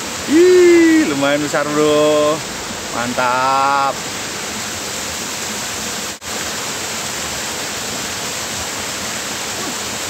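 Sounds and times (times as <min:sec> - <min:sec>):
stream water rushing into pool: 0:00.0 - 0:10.0.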